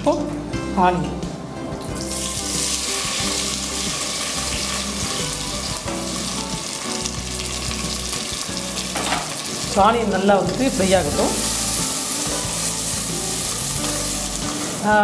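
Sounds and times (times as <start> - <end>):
onions sizzling in hot oil: 1.8 - 15.0.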